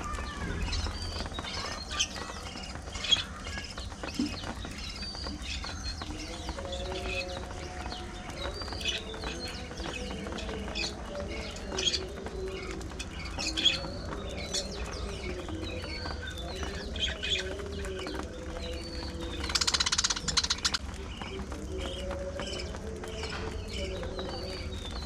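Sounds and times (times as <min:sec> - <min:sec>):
buzzy bird chatter: 0:00.0 - 0:25.0.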